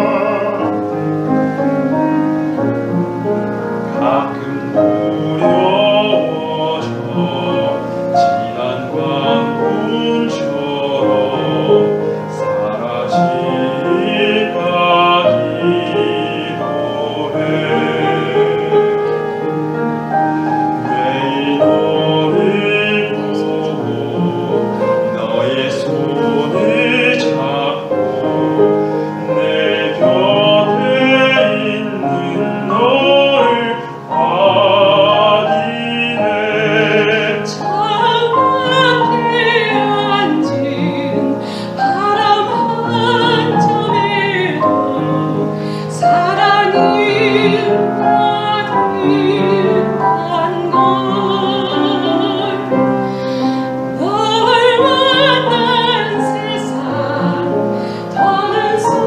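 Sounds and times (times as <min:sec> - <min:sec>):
operatic duet singing: 0:00.0 - 0:59.0
piano accompaniment: 0:00.0 - 0:59.0.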